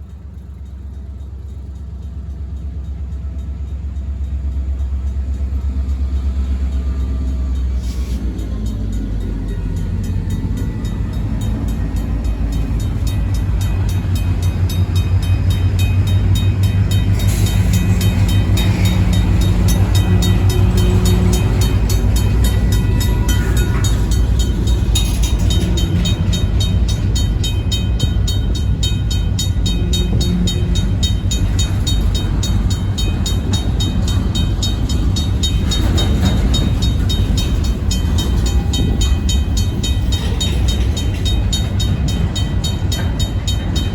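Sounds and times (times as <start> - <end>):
diesel locomotive rumble: 0.0 - 43.9
railroad crossing bell ringing: 0.0 - 43.9.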